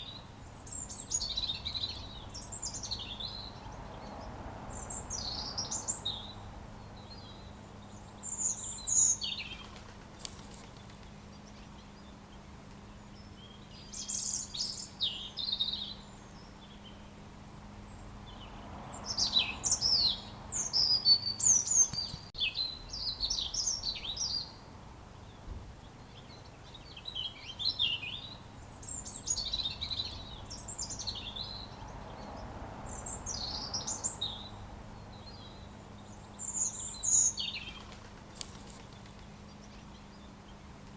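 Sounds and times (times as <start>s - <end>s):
robin singing: 0.0s - 9.8s, 10.4s - 40.8s.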